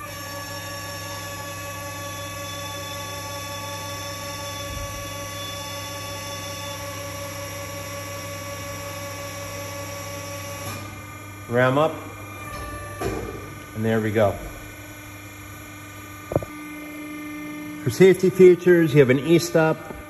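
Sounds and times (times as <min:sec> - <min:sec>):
hydraulic pump humming and whining: 0:00.0 - 0:20.0.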